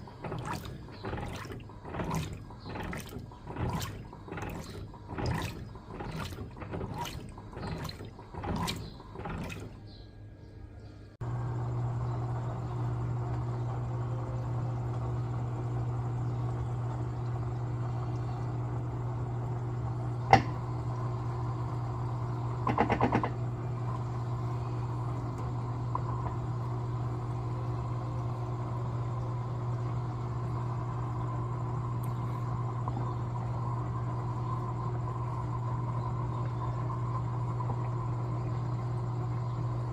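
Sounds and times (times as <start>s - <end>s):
water sloshing in washing machine: 0.0s - 10.0s, 13.2s - 39.9s
low motor hum: 0.0s - 39.9s.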